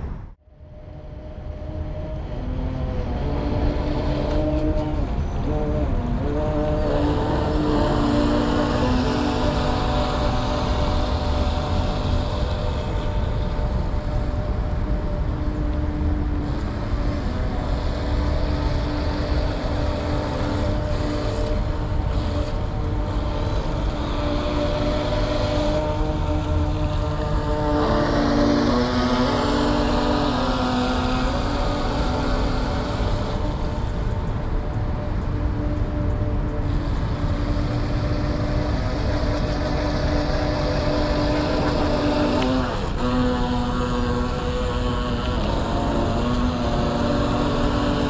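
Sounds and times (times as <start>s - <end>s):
model speedboat motor whine: 0.0s - 48.0s
steady rushing noise: 0.0s - 48.0s.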